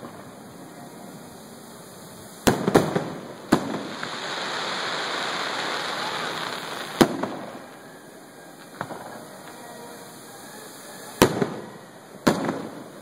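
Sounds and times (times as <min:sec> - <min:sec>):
fireworks bursting: 0:00.0 - 0:13.0
fireworks hiss: 0:00.0 - 0:13.0.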